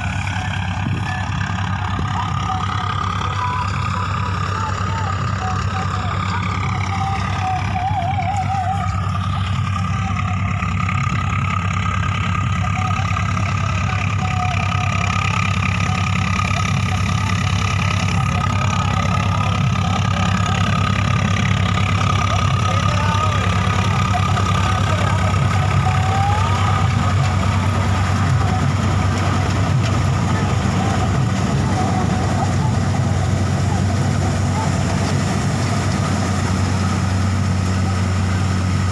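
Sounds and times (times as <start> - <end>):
diesel tractor engine idling: 0.0 - 38.9.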